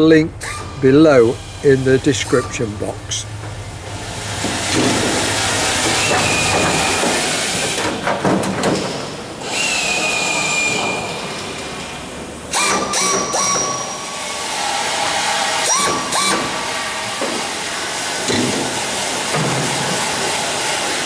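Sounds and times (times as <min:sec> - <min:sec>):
pneumatic air drill whining: 0:00.4 - 0:08.2, 0:09.4 - 0:11.9, 0:12.5 - 0:21.0.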